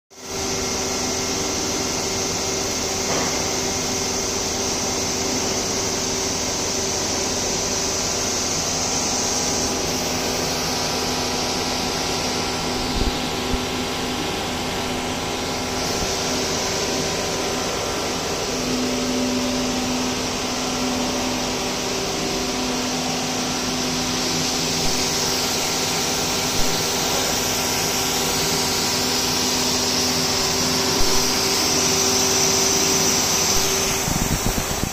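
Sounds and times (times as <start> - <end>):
machinery humming: 0.2 - 34.9.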